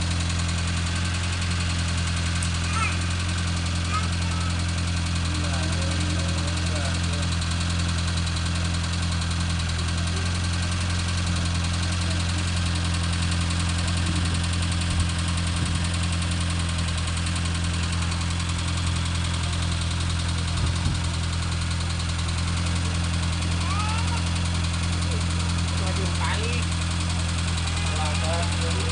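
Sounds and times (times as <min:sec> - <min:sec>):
engine humming steadily: 0:00.0 - 0:28.9.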